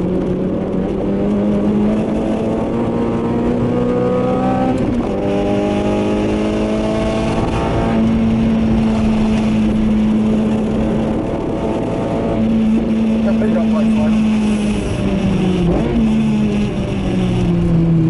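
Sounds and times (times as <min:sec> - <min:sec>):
car engine revving: 0:00.0 - 0:18.0
road noise: 0:00.0 - 0:18.0.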